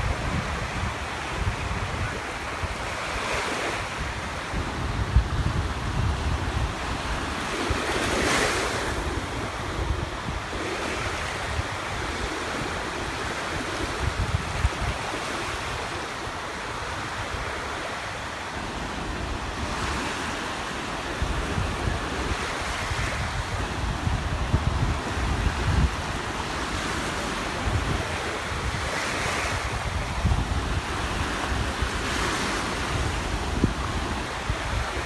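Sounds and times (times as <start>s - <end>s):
surf breaking on beach: 0.0s - 35.0s
wind buffeting microphone: 0.0s - 35.0s.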